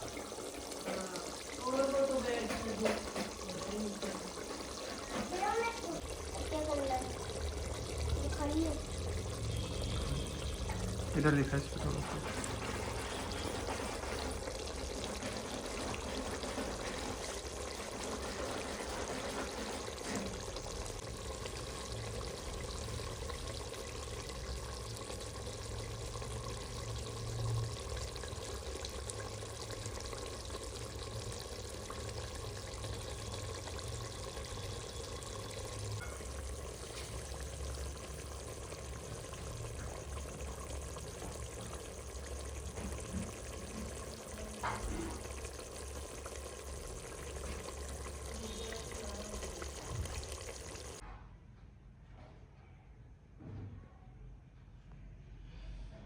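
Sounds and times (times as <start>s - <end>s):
food cooking in a pot: 0.0s - 51.0s.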